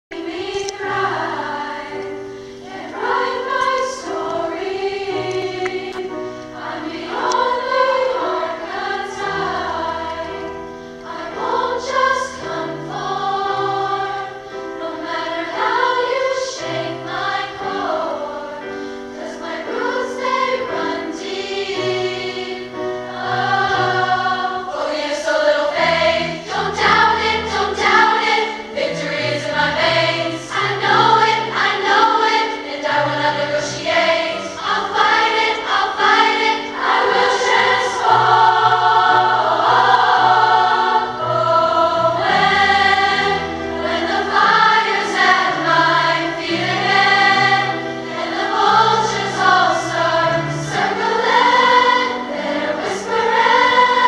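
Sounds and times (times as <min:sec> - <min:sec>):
girls' choir singing: 0:00.1 - 0:54.0
grand piano: 0:00.1 - 0:54.0.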